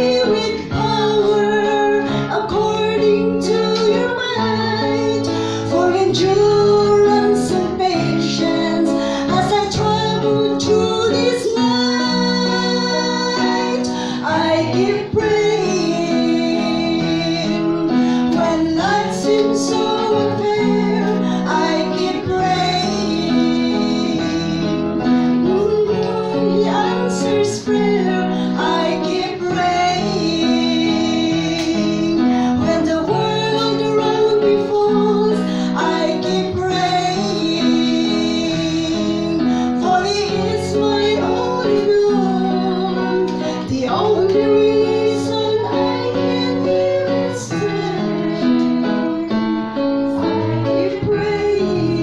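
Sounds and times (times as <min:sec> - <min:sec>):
electronic keyboard: 0:00.0 - 0:52.0
guitar: 0:00.0 - 0:52.0
woman singing into microphone: 0:00.0 - 0:52.0.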